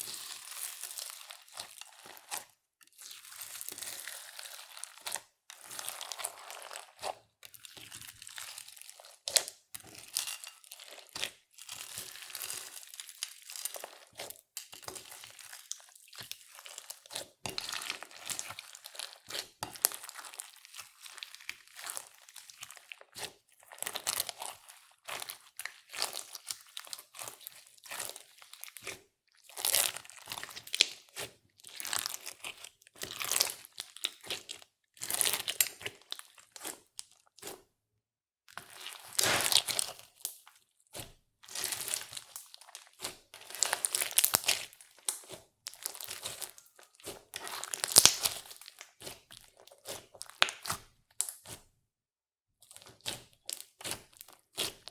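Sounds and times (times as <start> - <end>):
slime squishing and crackling: 0.0 - 37.6, 38.6 - 51.6, 52.7 - 54.9.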